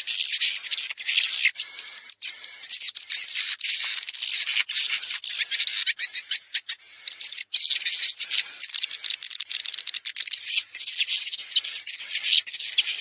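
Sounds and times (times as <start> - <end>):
swiftlets chirping: 0.0 - 13.0.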